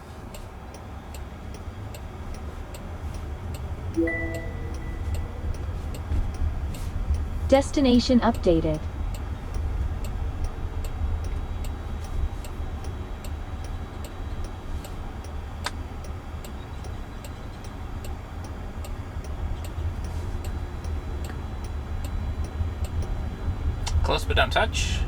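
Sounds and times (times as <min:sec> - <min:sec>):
low road rumble: 0:00.0 - 0:25.0
turn signal ticking: 0:00.0 - 0:25.0.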